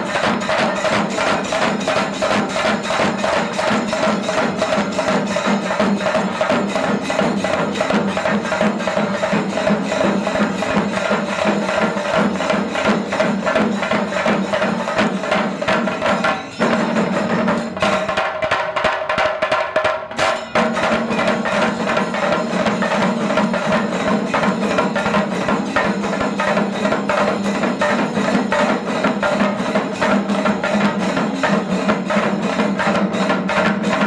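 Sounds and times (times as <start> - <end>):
ensemble of drums beaten with sticks: 0.0 - 34.0.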